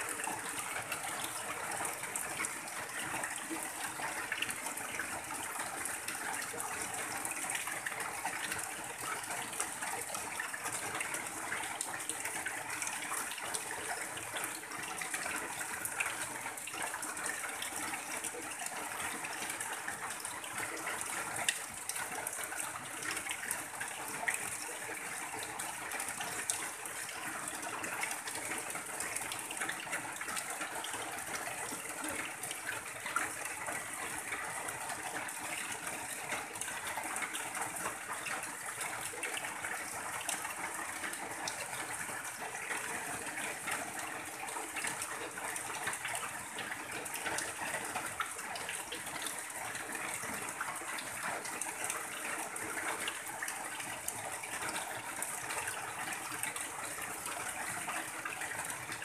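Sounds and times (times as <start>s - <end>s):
heavy rain on a tin roof: 0.0s - 59.0s
water streaming off roof edge: 0.0s - 59.0s.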